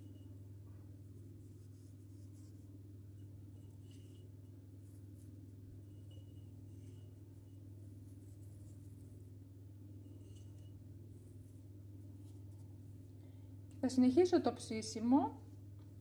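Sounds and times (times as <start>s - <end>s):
soft rustles and scratches: 0.0s - 16.0s
steady low hum: 0.0s - 16.0s.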